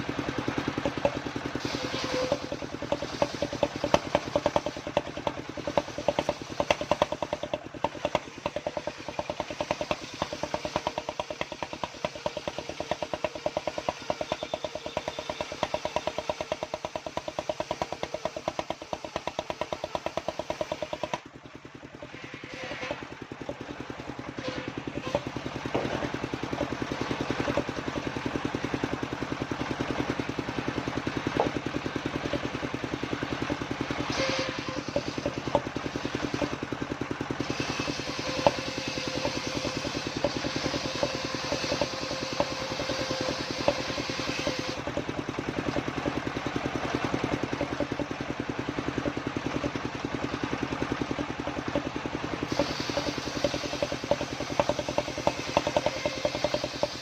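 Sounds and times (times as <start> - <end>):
saw blade cutting wood: 0.0 - 21.3, 21.9 - 48.3, 51.5 - 57.0
circular saw motor running: 0.0 - 57.0.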